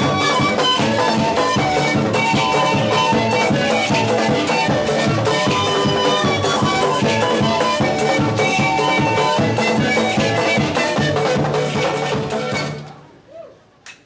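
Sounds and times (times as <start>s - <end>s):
held melody notes: 0.0s - 12.9s
music with steady drum beat: 0.0s - 12.9s.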